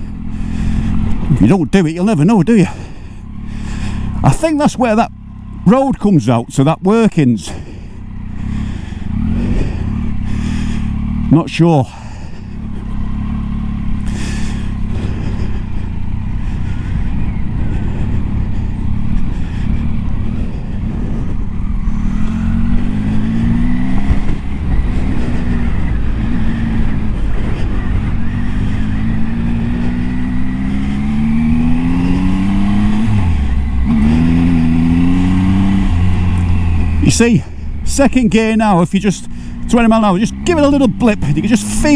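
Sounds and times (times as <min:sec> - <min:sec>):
motorcycle engine accelerating: 0:00.0 - 0:41.9
wind and tyre noise: 0:00.0 - 0:41.9.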